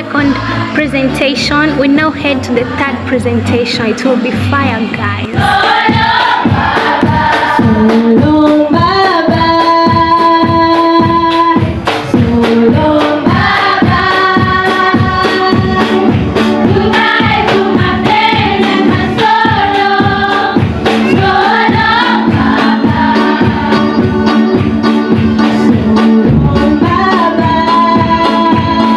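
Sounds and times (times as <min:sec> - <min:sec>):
choir singing gospel: 0:00.0 - 0:04.4, 0:05.2 - 0:28.9
steady drum beat: 0:00.0 - 0:28.9.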